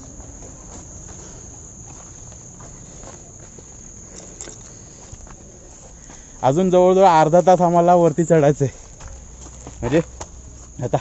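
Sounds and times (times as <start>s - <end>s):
footsteps on stony muddy trail: 0.0s - 11.0s
insects chirring: 0.0s - 11.0s.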